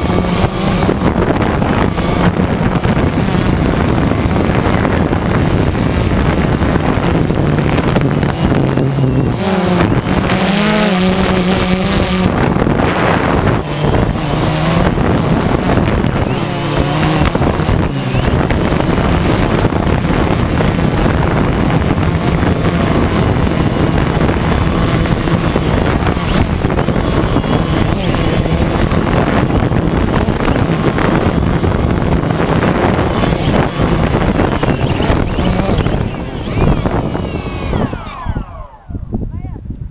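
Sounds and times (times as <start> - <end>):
drone propellers buzzing: 0.0 - 39.4
wind noise on microphone: 0.0 - 39.9.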